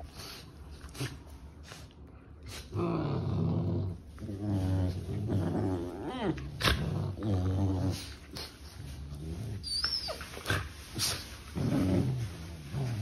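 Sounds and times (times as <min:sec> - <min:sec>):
puppies growling: 0:02.5 - 0:13.0.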